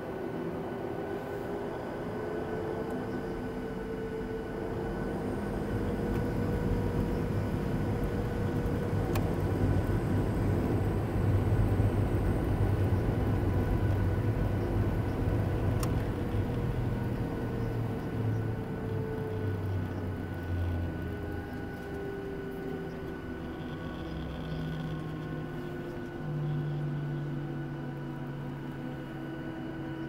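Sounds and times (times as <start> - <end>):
jet engines heard from cabin: 0.0 - 30.0.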